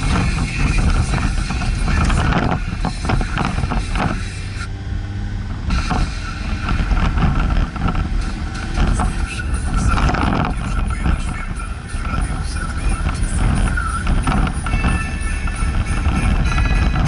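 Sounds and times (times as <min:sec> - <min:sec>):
van engine and tyre rumble: 0:00.0 - 0:17.0.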